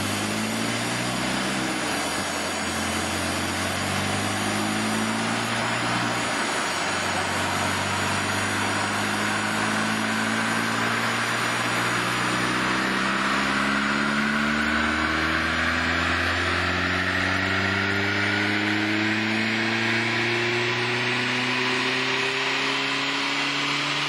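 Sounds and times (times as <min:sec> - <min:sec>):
car engine revving under load: 0:00.0 - 0:24.0.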